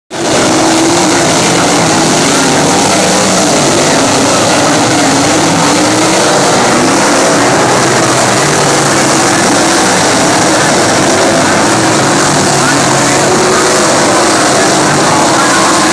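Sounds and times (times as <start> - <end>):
racing car engines: 0.1 - 15.9.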